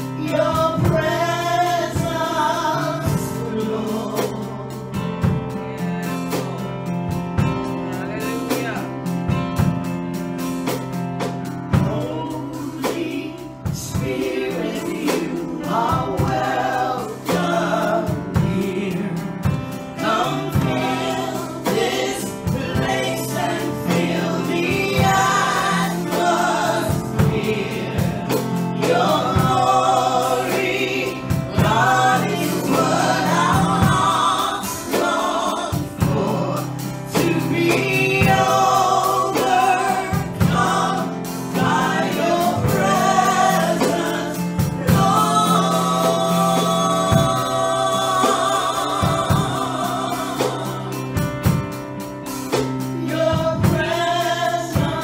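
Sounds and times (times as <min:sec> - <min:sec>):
two women singing gospel: 0:00.0 - 0:07.8, 0:08.5 - 0:55.0.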